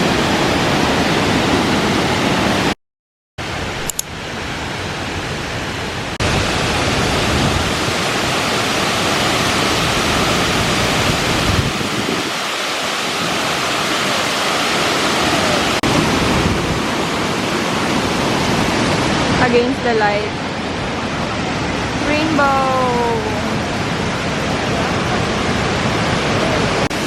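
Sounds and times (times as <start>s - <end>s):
waterfall rushing: 0.0s - 2.8s, 3.4s - 27.0s.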